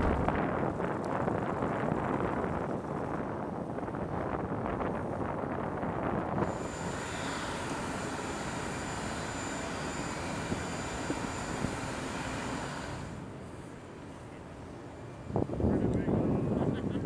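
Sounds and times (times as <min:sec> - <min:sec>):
aircraft radial engines running: 0:00.0 - 0:17.0.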